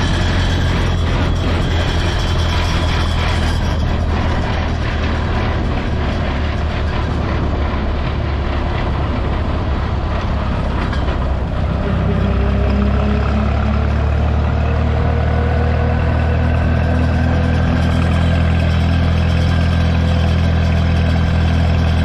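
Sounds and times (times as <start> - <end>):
road and wind noise: 0.0 - 22.0
tractor engine droning: 0.0 - 22.0.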